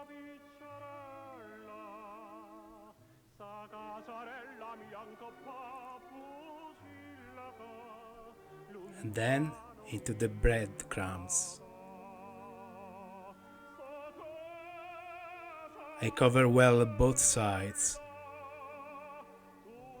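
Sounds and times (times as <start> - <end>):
operatic tenor singing: 0.0 - 20.0
soft accompaniment: 0.0 - 20.0.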